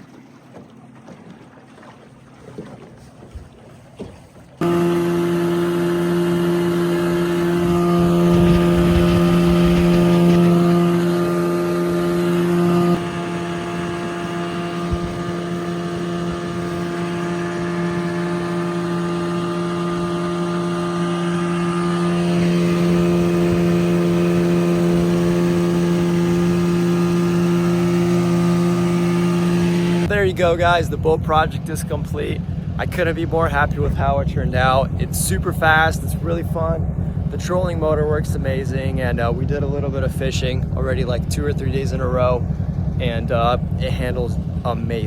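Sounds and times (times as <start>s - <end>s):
two-stroke outboard motor running: 0.0s - 45.0s.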